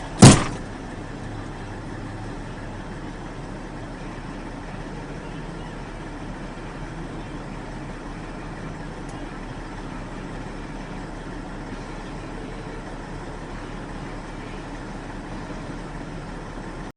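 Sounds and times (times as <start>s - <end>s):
truck diesel engine rumbling: 0.0s - 16.9s.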